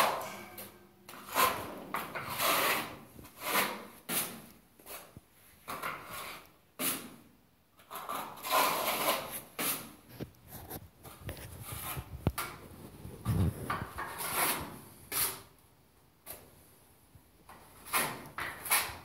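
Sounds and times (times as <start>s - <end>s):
plastering tool scraping plaster: 0.0s - 15.6s, 17.5s - 19.0s.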